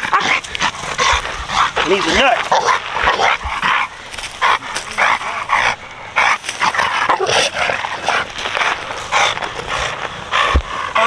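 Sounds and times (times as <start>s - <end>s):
dog barking and yelping: 0.0s - 9.4s.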